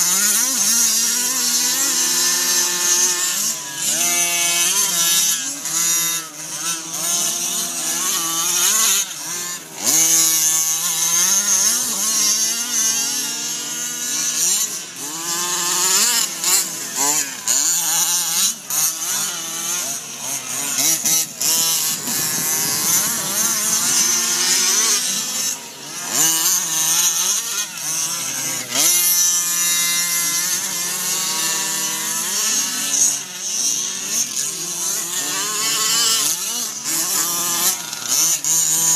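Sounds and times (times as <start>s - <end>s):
small petrol engines revving: 0.0s - 38.9s.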